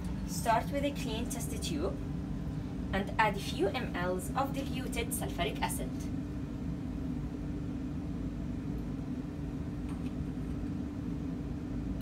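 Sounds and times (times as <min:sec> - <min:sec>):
machine rumbling hum: 0:00.0 - 0:12.0.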